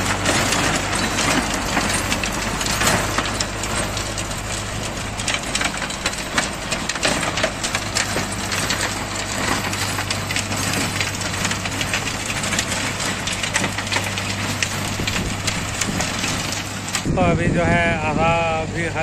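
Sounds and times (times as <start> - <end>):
rotavator blades churning soil: 0.0 - 19.0
tractor diesel engine: 0.0 - 19.0.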